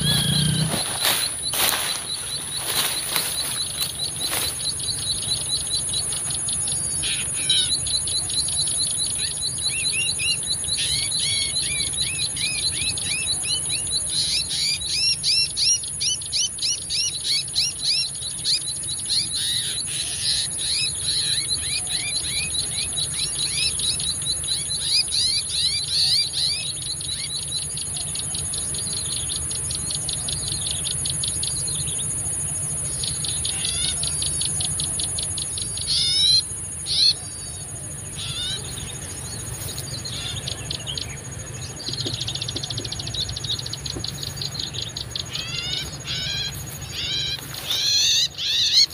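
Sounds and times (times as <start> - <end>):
high insect drone: 0.0 - 48.9
small birds chirping: 0.0 - 48.9.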